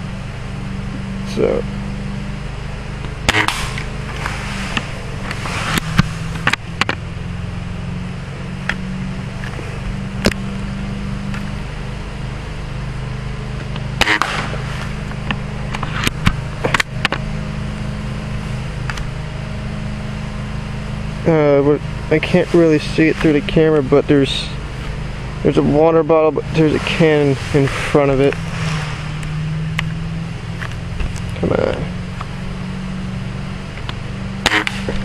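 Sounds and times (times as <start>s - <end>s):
lawn mower engine humming: 0.0s - 35.0s.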